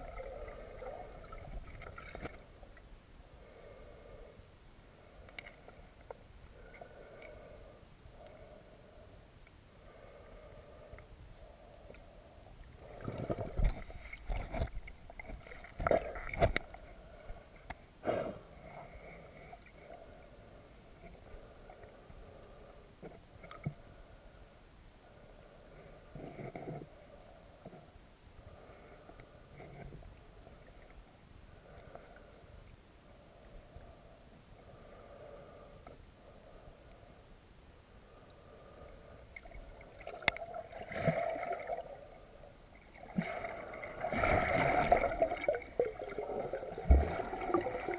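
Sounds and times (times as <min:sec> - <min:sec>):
muffled underwater river flow: 0:00.0 - 0:47.9.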